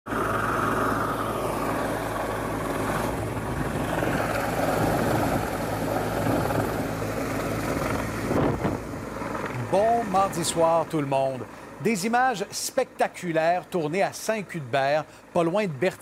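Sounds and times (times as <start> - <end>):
helicopter hovering overhead: 0.1 - 16.0.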